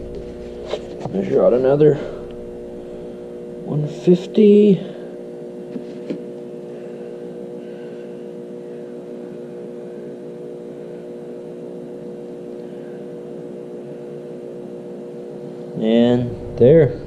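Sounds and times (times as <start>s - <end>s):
steady multi-tone hum: 0.0s - 17.0s.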